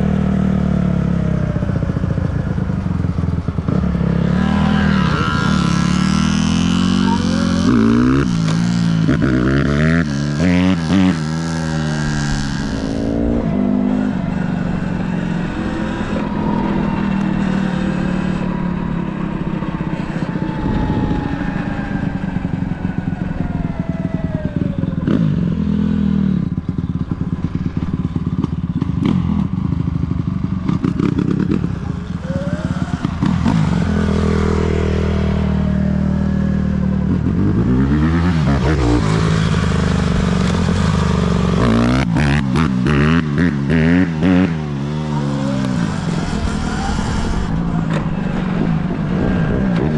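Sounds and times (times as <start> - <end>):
dirt bike engine revving: 3.6 - 29.9, 30.5 - 49.9.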